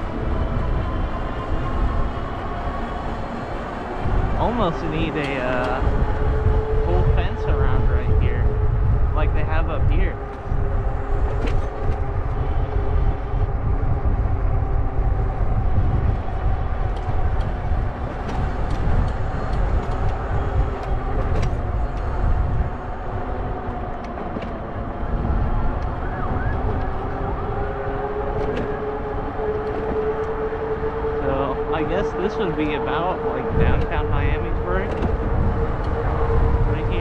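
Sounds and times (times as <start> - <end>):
e-bike motor and tyre hum: 0.0 - 37.0
wind rushing over microphone: 0.0 - 37.0.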